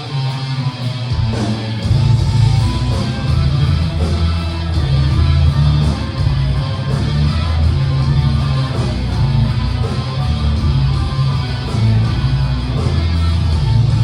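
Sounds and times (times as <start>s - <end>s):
rock music with guitars: 0.0s - 14.0s.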